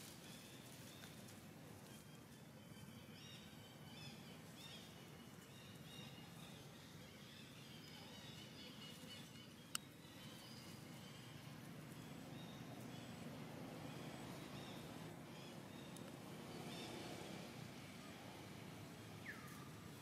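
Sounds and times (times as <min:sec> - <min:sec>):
faint outdoor background noise: 0:00.0 - 0:20.0.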